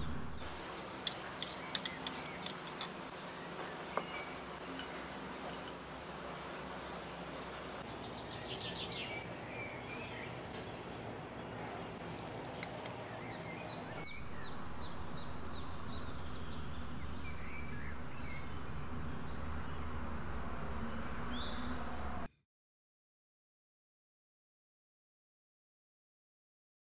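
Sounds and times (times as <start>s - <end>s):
birds chirping: 0.0s - 22.3s
outdoor background noise: 0.0s - 22.3s.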